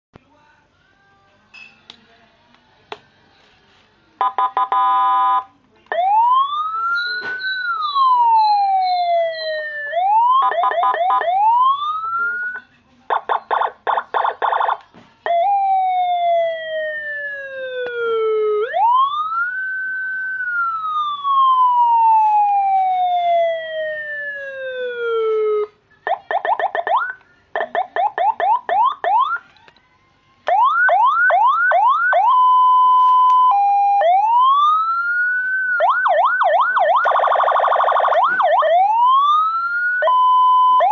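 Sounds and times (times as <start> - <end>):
electronic siren wailing and yelping: 4.2 - 29.8, 30.5 - 40.9.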